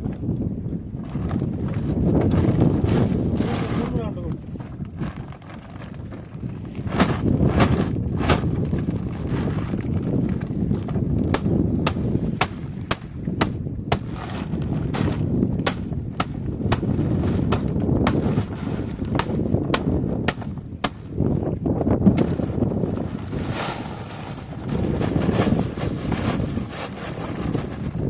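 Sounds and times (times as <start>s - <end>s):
boat rumble: 0.0s - 28.0s
wind: 0.0s - 28.0s.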